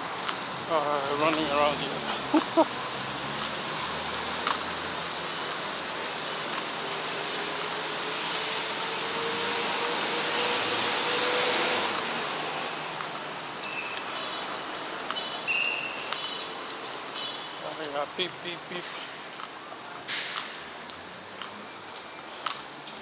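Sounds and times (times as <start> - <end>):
hum of passing cars: 0.0 - 23.0.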